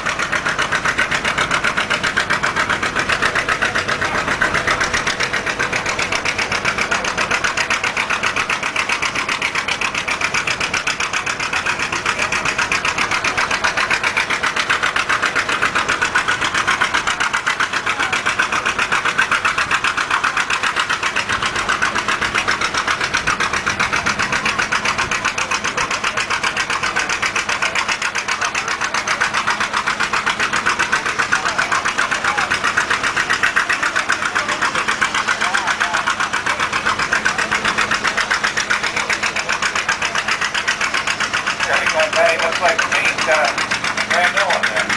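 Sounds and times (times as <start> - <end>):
tractor engine chugging: 0.0 - 44.9.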